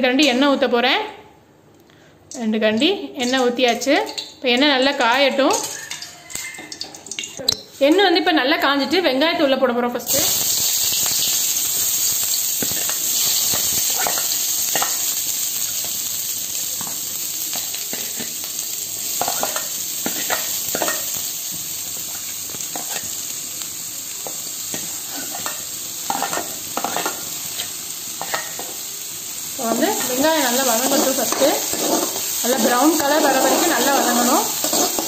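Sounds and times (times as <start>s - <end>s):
onions sizzling in hot oil: 3.2s - 7.3s, 10.1s - 35.0s.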